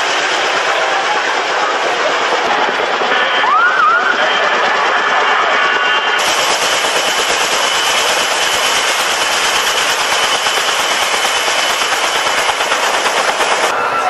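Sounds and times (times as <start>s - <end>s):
helicopter rotors chopping: 0.0s - 13.9s
turbine engine noise: 0.0s - 14.0s.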